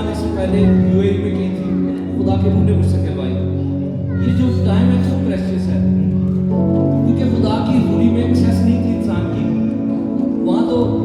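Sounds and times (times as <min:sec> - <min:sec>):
worship music chords: 0:00.0 - 0:11.0.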